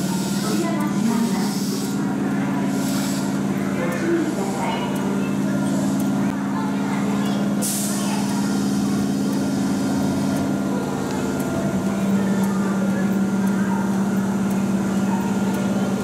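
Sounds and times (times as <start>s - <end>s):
electric train hum: 0.0s - 16.0s.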